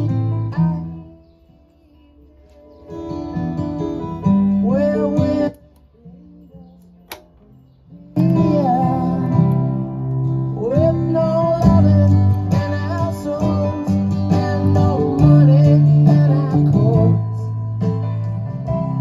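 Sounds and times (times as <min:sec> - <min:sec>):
guitar music through speakers: 0:00.0 - 0:01.4, 0:02.5 - 0:19.0.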